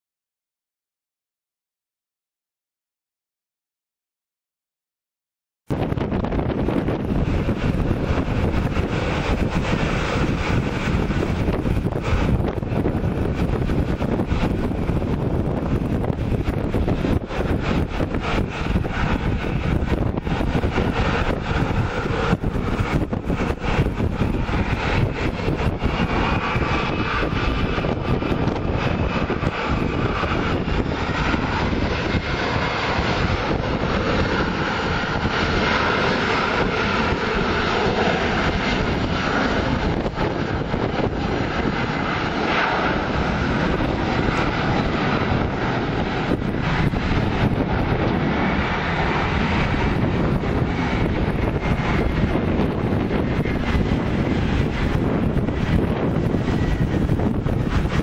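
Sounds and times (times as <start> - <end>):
jet engines roaring on takeoff: 5.7 - 58.0.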